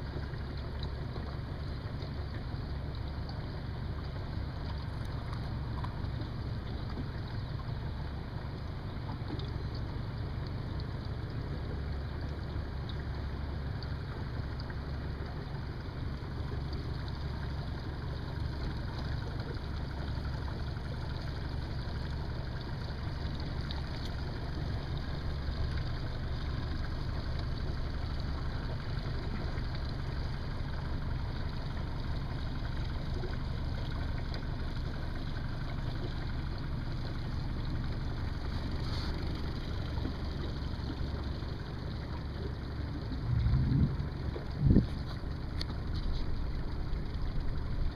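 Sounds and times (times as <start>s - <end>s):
outboard motor droning: 0.0s - 47.9s
water noise: 0.0s - 47.9s.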